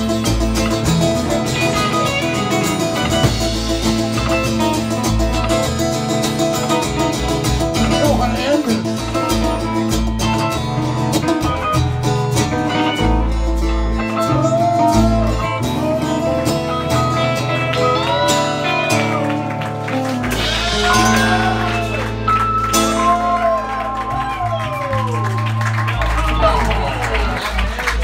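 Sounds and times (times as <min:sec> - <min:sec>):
lead guitar bending notes: 0:00.0 - 0:24.5
live rock band playing: 0:00.0 - 0:28.0.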